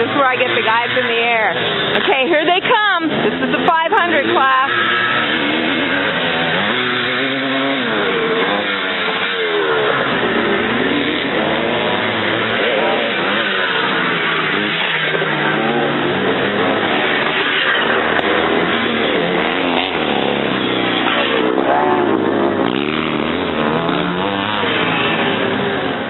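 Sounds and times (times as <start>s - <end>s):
motocross motorcycles racing past: 0.0s - 26.0s.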